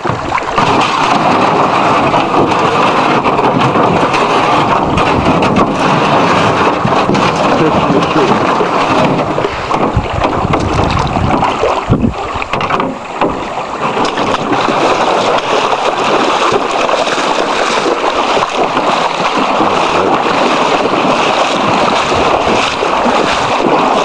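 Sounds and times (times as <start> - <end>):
river water rushing: 0.0 - 24.0
wind buffeting microphone: 0.0 - 24.0.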